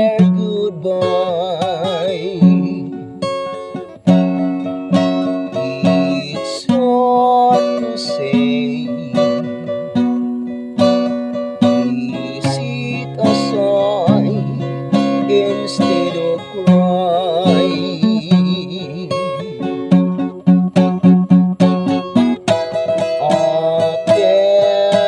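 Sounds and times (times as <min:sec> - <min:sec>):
man singing: 0:00.0 - 0:10.3, 0:11.6 - 0:20.4, 0:21.9 - 0:25.0
acoustic guitar strumming: 0:00.0 - 0:25.0.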